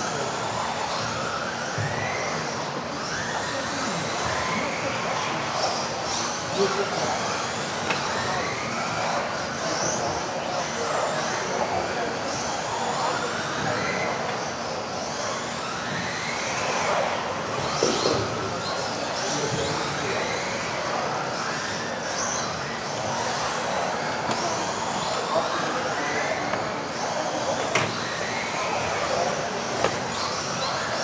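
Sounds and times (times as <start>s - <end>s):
electric motors whining: 0.0s - 31.0s.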